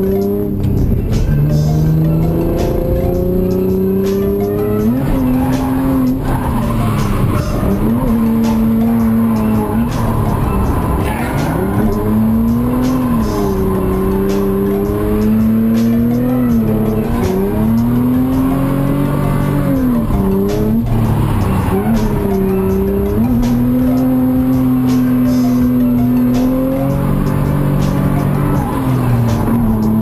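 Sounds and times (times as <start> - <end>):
car engine revving high: 0.0 - 30.0.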